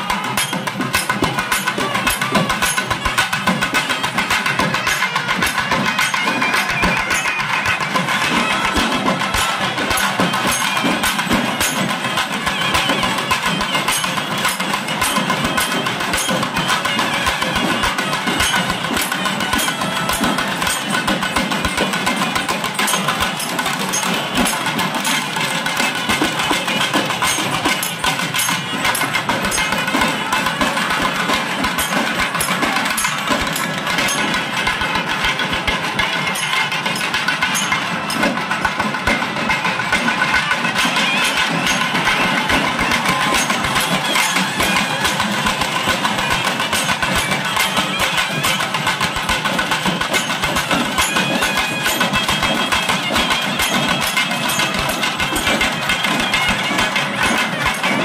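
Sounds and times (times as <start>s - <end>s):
drums beaten fast with sticks: 0.0s - 58.0s
wind instrument wavering melody: 0.0s - 58.0s.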